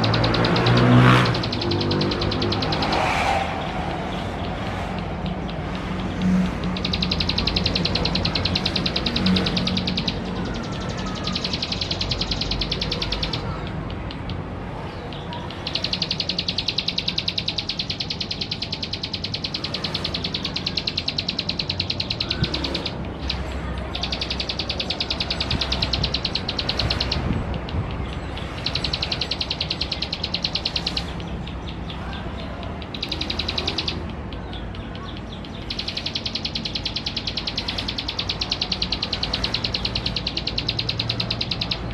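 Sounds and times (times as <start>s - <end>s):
bird singing buzzy trills: 0.0s - 41.9s.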